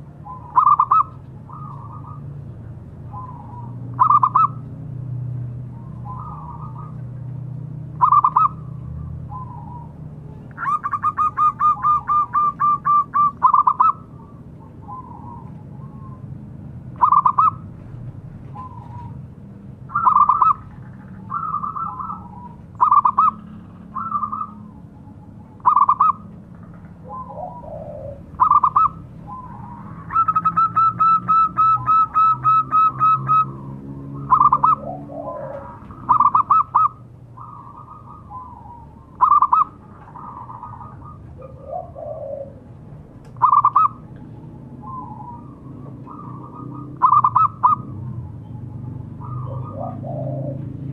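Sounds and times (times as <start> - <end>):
dove cooing: 0.0 - 4.7, 5.7 - 7.2, 7.9 - 17.8, 18.4 - 19.3, 19.9 - 50.9.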